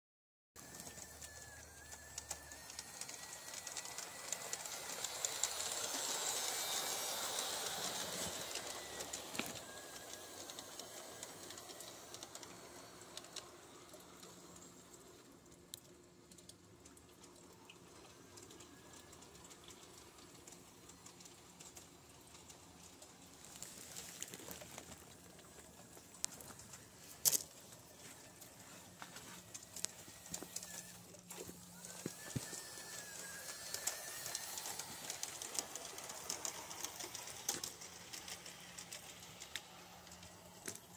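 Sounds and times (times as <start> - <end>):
model train wheels clattering on rails: 0.6 - 40.9.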